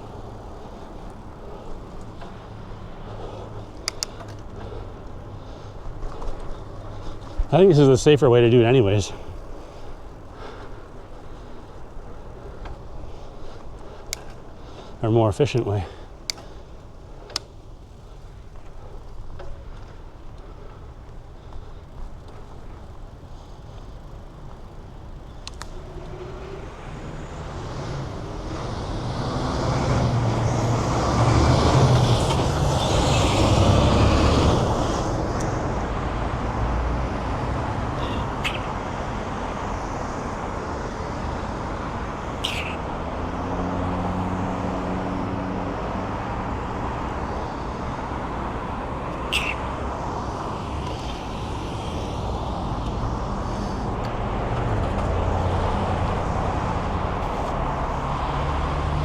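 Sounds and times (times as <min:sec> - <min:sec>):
vehicle passing close: 0:00.0 - 0:20.8, 0:21.8 - 0:59.0
passing cars: 0:00.0 - 0:59.0.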